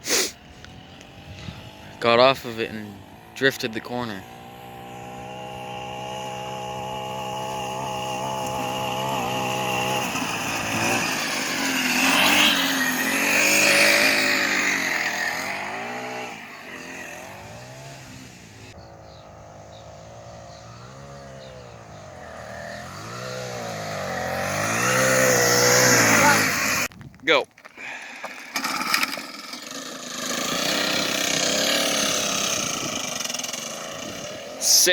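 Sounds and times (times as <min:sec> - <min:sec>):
kart engine revving: 0:00.0 - 0:26.9, 0:27.8 - 0:34.9.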